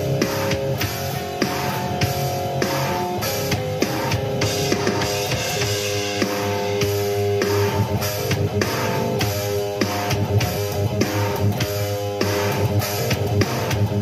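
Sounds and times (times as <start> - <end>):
drum hits: 0.0 - 14.0
electric guitar metal riff: 0.0 - 14.0.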